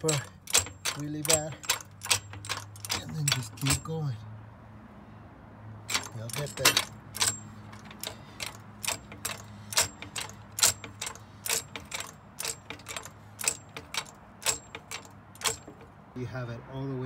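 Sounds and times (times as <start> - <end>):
floor jack metallic clicks: 0.0 - 3.9, 5.9 - 15.9.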